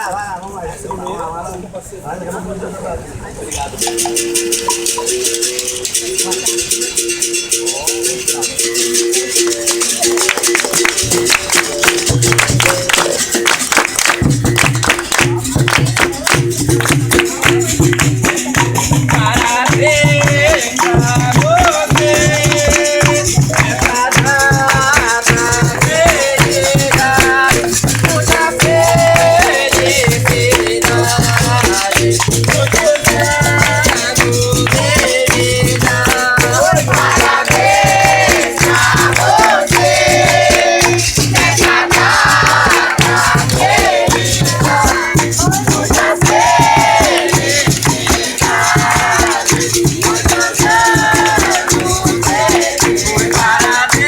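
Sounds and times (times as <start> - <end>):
berimbau: 3.5 - 54.0
call-and-response singing: 3.8 - 54.0
hand clapping: 9.4 - 54.0.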